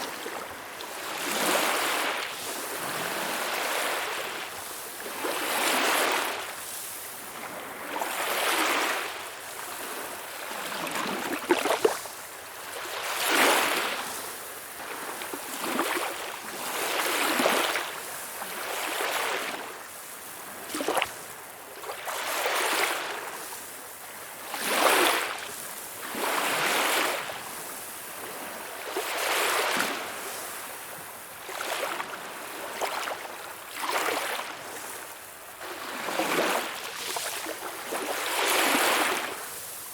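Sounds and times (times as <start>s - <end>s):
small waves splashing: 0.0s - 39.9s.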